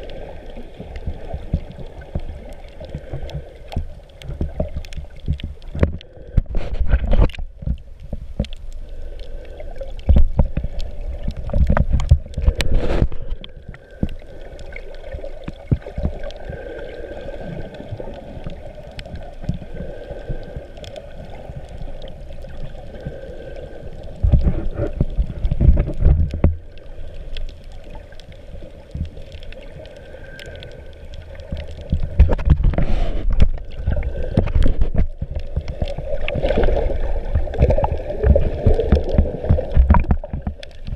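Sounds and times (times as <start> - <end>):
muffled water sloshing and rushing: 0.0 - 40.9.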